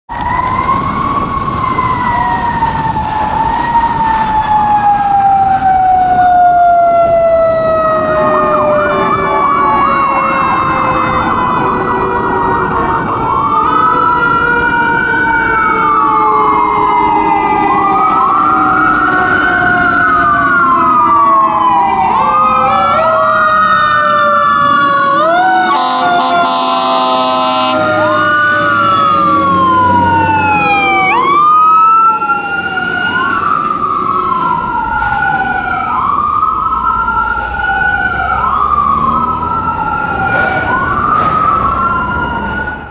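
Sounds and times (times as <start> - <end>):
siren sliding down in pitch: 0.1 - 42.9
siren warbling and wailing: 0.1 - 42.9.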